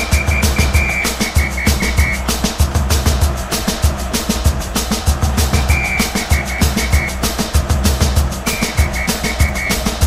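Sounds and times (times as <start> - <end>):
music with driving drum beat: 0.0 - 10.0.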